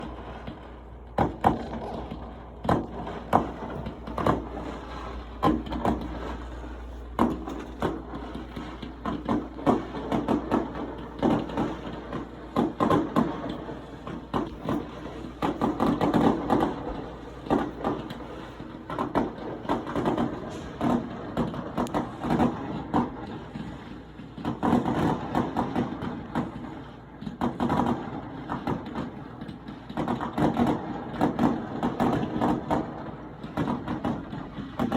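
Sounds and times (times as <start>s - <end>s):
fireworks bangs: 0.0s - 34.9s
rumble and crackle: 0.0s - 34.9s.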